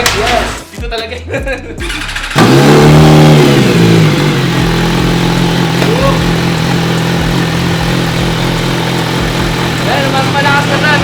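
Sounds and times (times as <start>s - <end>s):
motorcycle engine starting and idling: 1.8s - 11.0s.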